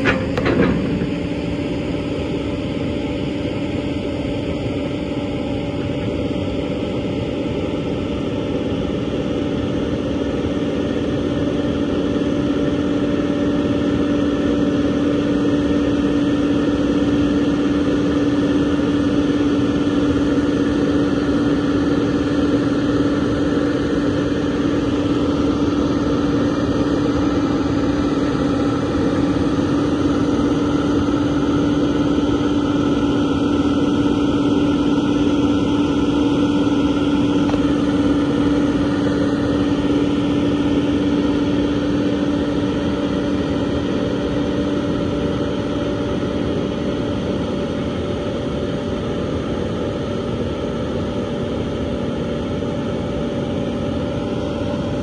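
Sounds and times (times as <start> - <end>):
excavator diesel engine running: 0.0 - 8.6, 9.2 - 47.4
steady hum: 0.0 - 55.0.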